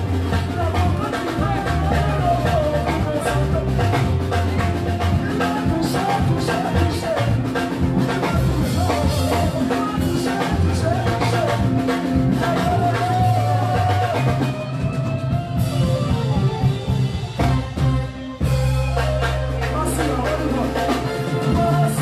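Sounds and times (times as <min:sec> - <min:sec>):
person singing: 0:00.0 - 0:15.0, 0:19.0 - 0:22.0
drum beat: 0:00.0 - 0:22.0
low bass notes: 0:00.0 - 0:22.0.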